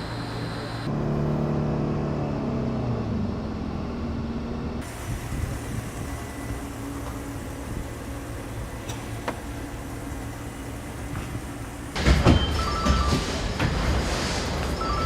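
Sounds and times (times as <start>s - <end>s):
car engine low rumble: 0.0s - 12.7s.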